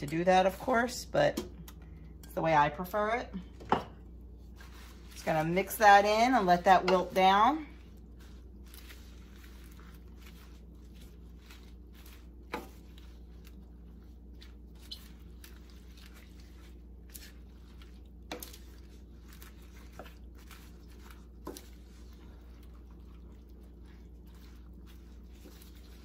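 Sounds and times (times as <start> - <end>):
steady low hum: 0.0 - 26.0
spoon stirring leaves in a pan: 4.3 - 26.0.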